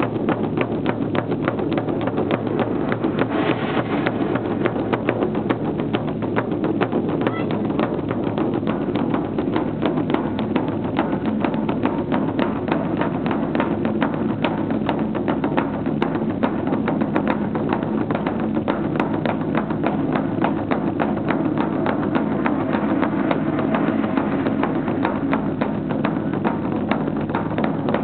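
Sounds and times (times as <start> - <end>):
drums: 0.0 - 28.0
fast clacking beat: 0.0 - 28.0.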